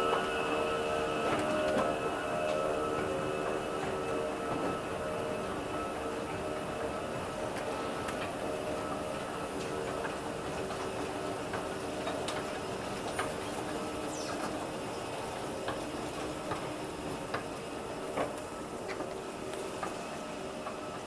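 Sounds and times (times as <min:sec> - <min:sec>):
escalator machine hum: 0:00.0 - 0:21.0
escalator steps ticking and clicking: 0:01.2 - 0:21.0.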